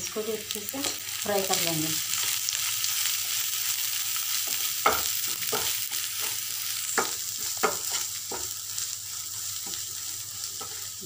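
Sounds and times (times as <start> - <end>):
masala sizzling in hot oil: 0.0 - 11.0.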